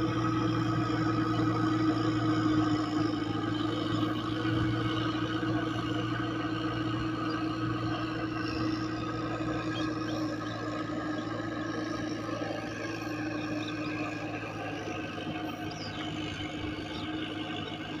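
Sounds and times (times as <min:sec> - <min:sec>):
tractor diesel engine droning: 0:00.0 - 0:18.0.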